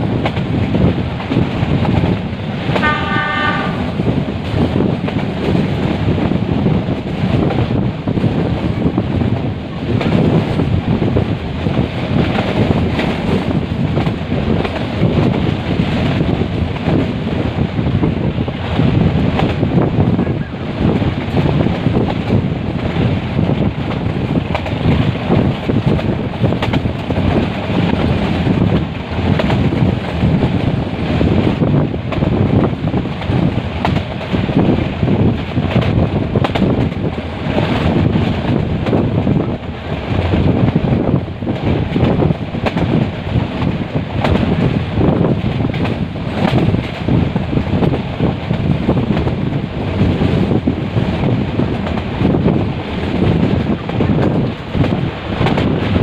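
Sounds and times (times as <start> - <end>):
train rumbling: 0.0 - 56.0
wind buffeting microphone: 0.0 - 56.0.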